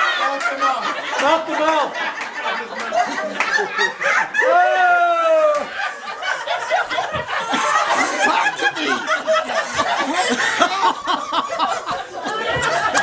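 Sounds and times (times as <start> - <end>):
group of people laughing: 0.0 - 13.0
people chattering: 0.0 - 13.0.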